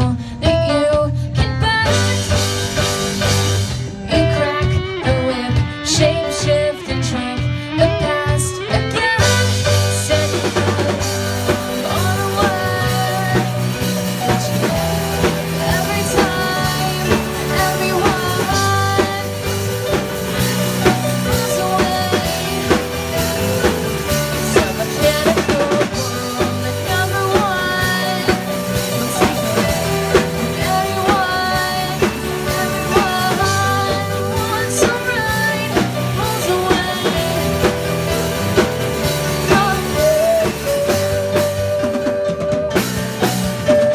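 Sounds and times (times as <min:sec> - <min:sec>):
person singing: 0:00.0 - 0:43.9
rock band playing: 0:00.0 - 0:43.9.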